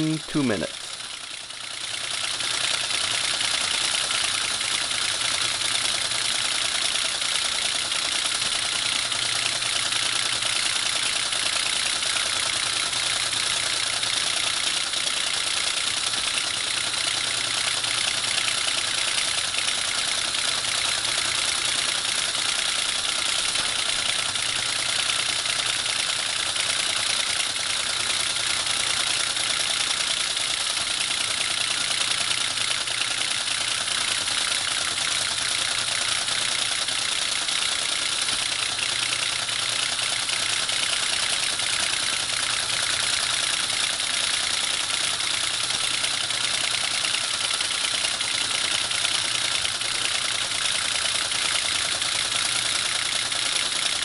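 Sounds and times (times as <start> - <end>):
teleprinter mechanical clatter: 1.6 - 54.0.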